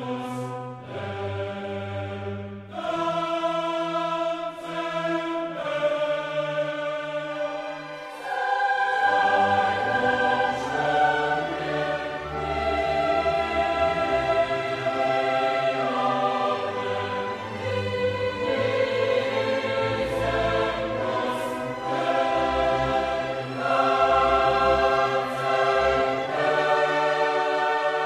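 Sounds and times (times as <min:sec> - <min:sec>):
choir singing held chords: 0:00.0 - 0:28.0
orchestral accompaniment: 0:00.0 - 0:28.0.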